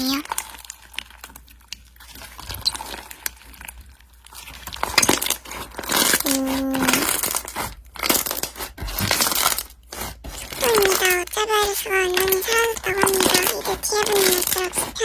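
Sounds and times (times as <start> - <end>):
slime crackling and popping: 0.0 - 15.0.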